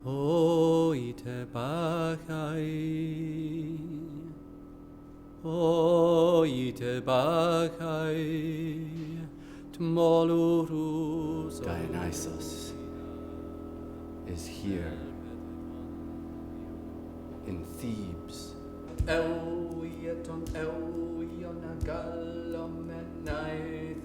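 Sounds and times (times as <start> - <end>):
man chanting: 0.0 - 4.4, 5.4 - 24.0
low held tone: 0.0 - 24.0.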